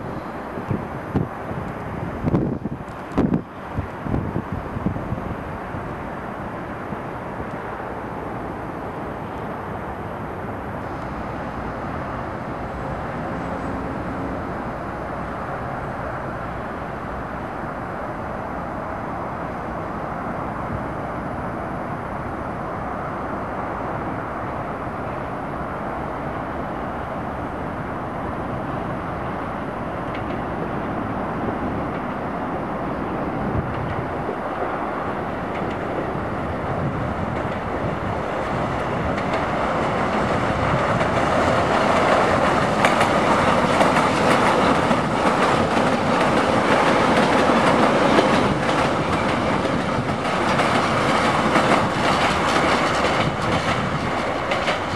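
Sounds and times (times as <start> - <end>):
road traffic: 0.0 - 54.9
train rumble: 0.0 - 54.9.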